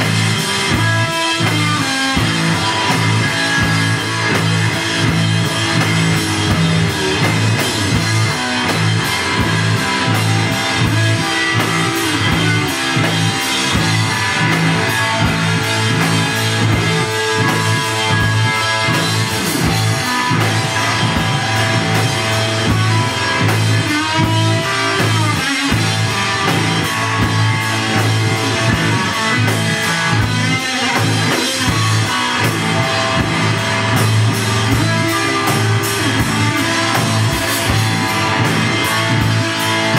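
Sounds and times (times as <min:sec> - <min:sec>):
drum kit: 0:00.0 - 0:39.9
electric guitar: 0:00.0 - 0:39.9
live rock band playing: 0:00.0 - 0:39.9
pulsing bass line: 0:00.0 - 0:39.9.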